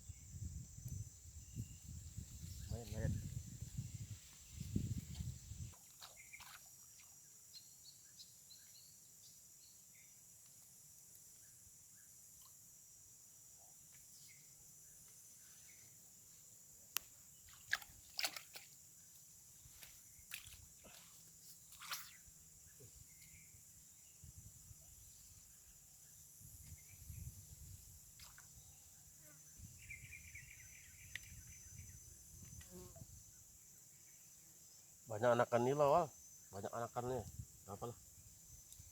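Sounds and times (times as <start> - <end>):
high insect drone: 0.0 - 17.6, 18.7 - 38.9.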